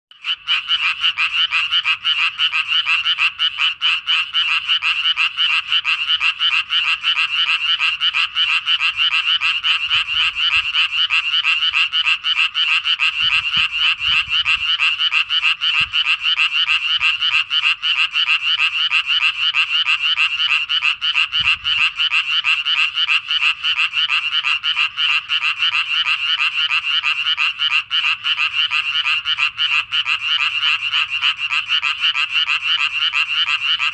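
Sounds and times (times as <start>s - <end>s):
tree frogs calling: 0.1s - 33.9s.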